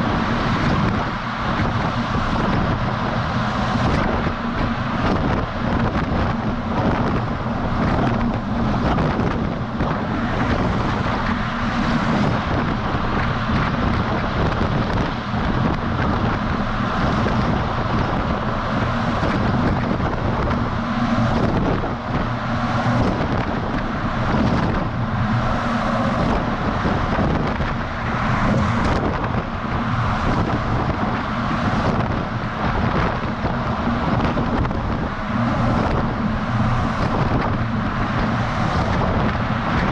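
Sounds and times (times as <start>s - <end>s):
truck diesel engine running: 0.0s - 39.9s
wind and road noise: 0.0s - 39.9s.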